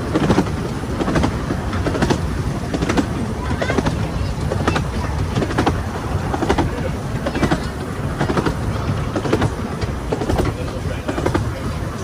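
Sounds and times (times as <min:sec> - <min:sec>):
railway carriage rumbling: 0:00.0 - 0:12.0
wheels clicking over rail joints: 0:00.0 - 0:12.0.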